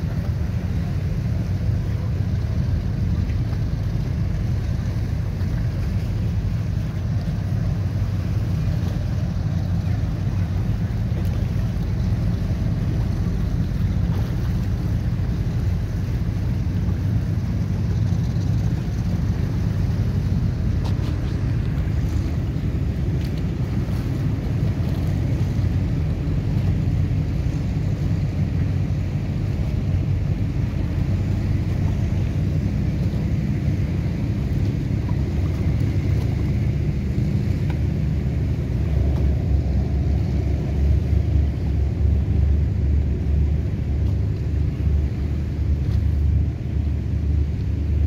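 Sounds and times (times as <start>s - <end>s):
motorboat engines rumbling: 0.0s - 48.0s
wind buffeting microphone: 0.0s - 48.0s.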